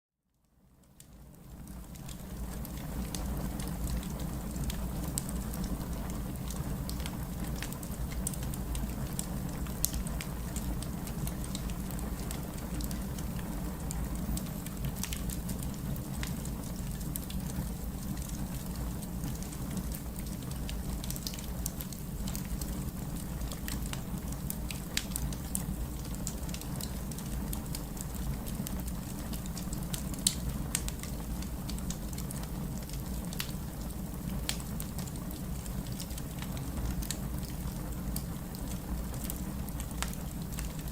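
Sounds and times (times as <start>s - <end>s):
wood fire burning: 0.8s - 40.9s.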